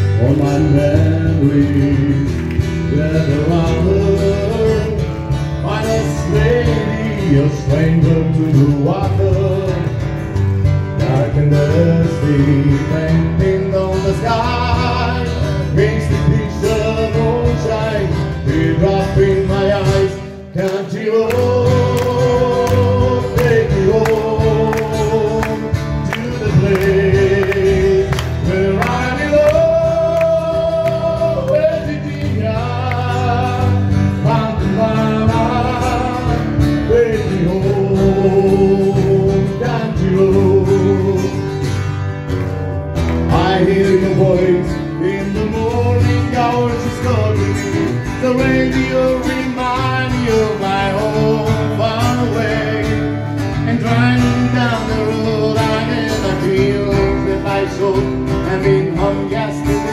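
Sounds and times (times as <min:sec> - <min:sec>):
man singing into a microphone: 0:00.0 - 0:41.7, 0:43.2 - 0:59.9
acoustic guitar strumming: 0:00.0 - 0:59.9.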